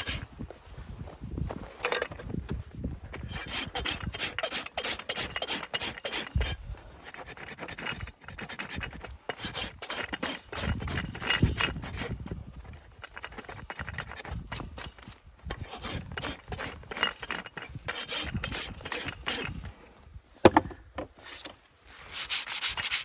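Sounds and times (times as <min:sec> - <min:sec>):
rasp filing a hoof: 0:00.0 - 0:00.3, 0:03.1 - 0:19.8, 0:20.5 - 0:23.0.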